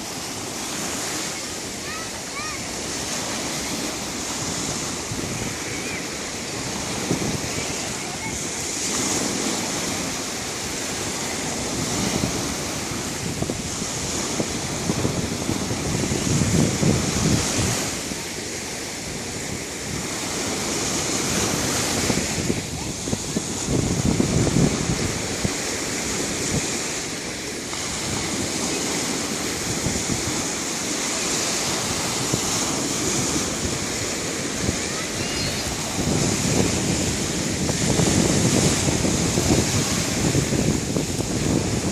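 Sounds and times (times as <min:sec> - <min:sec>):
sea waves washing onto shore: 0:00.0 - 0:41.9.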